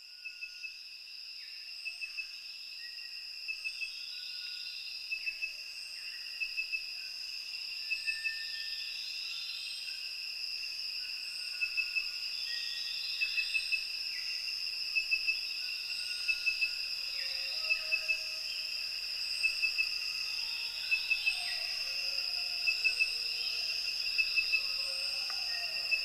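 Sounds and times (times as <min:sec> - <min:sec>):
insect chirping: 0:00.0 - 0:26.0
insect chorus drone: 0:00.0 - 0:26.0.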